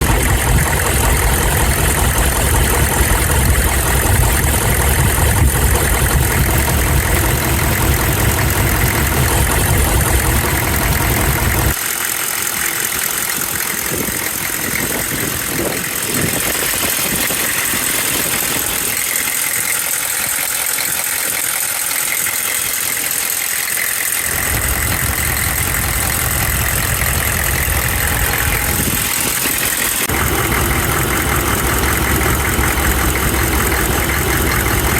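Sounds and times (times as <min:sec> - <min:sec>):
diesel engine idling with knock: 0:00.0 - 0:34.9.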